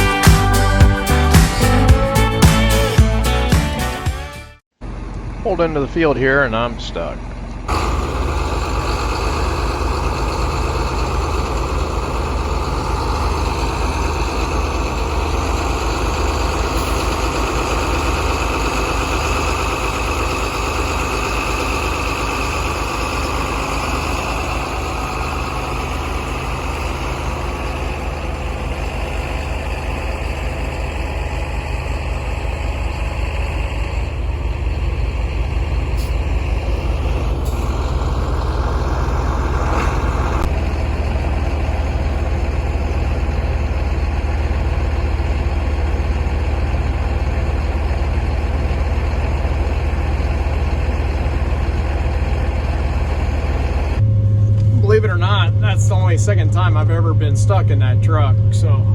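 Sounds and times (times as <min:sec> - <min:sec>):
truck engine running: 0:00.0 - 0:58.9.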